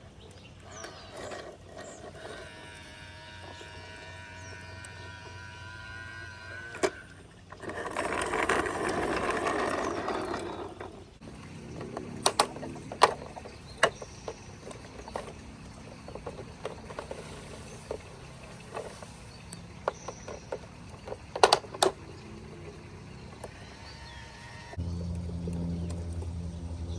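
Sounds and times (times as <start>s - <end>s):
toy truck plastic clicks and rattling: 0.2s - 22.1s.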